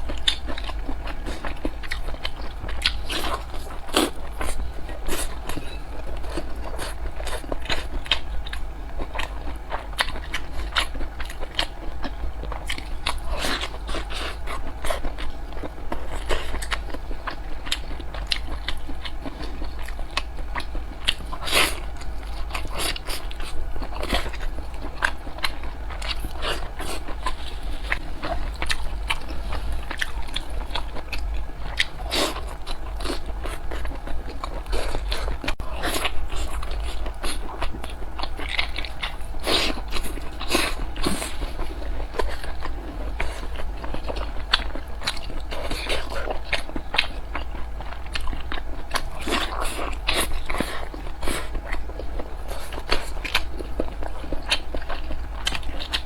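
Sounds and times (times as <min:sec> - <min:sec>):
wet chewing and mouth smacks: 0:00.1 - 0:56.0.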